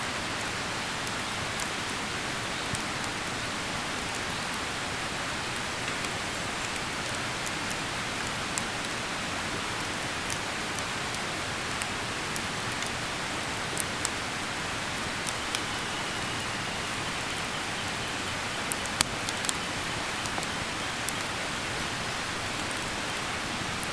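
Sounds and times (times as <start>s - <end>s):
wood campfire crackling: 0.4s - 23.9s.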